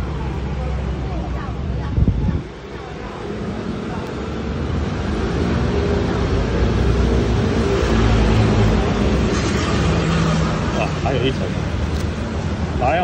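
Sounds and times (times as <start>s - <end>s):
low rumble of vehicle noise: 0.0s - 13.0s.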